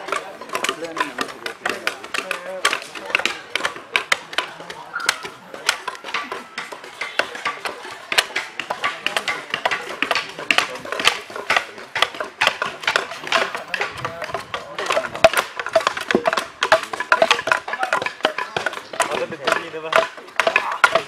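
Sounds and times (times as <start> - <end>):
blades chopping wood: 0.0 - 21.0.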